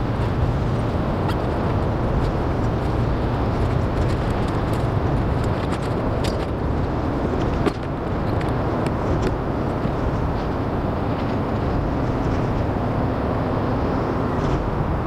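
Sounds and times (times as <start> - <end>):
low engine or traffic rumble: 0.0 - 15.0.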